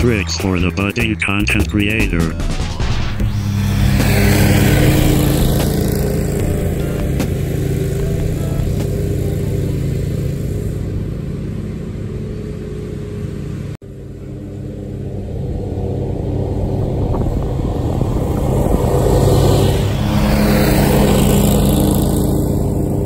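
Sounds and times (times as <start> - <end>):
lawn mower engine drone: 0.0 - 23.0.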